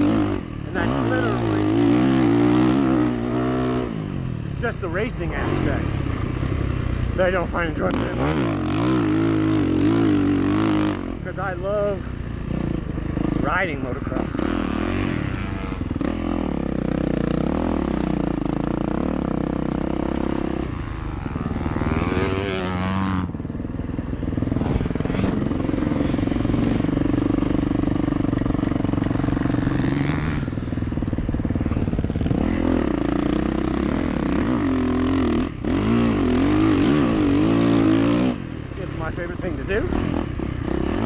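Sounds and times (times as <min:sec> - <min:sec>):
dirt bike engine: 0:00.0 - 0:41.0.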